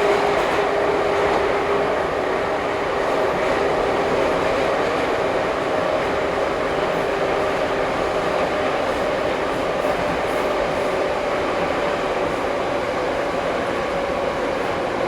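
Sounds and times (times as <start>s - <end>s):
constant train whine: 0.0s - 15.0s
metro train wheels rumbling: 0.0s - 15.0s.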